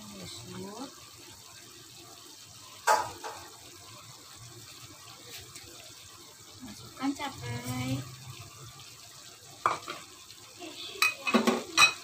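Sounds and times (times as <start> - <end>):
broth bubbling in pan: 0.0 - 12.0.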